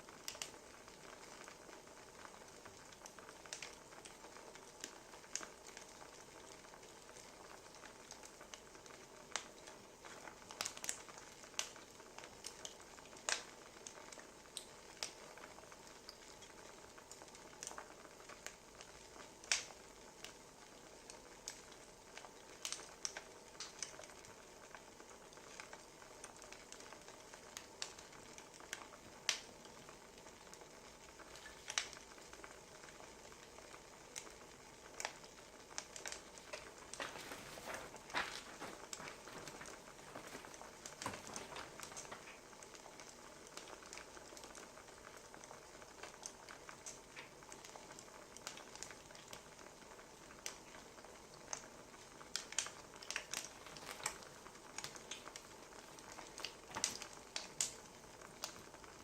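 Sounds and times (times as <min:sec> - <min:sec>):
soft steady hiss: 0:00.0 - 0:59.0
wood fire crackling: 0:00.0 - 0:59.0.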